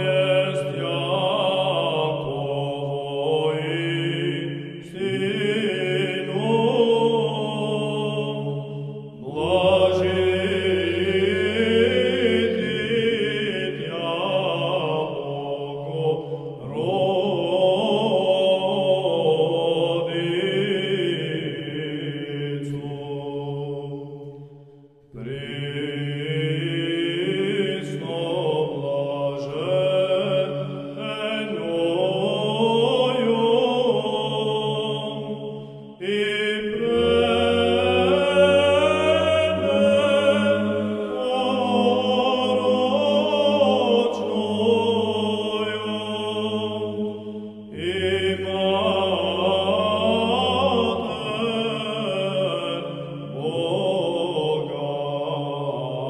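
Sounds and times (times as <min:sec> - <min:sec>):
low vocal drone: 0:00.0 - 0:24.1, 0:25.2 - 0:56.0.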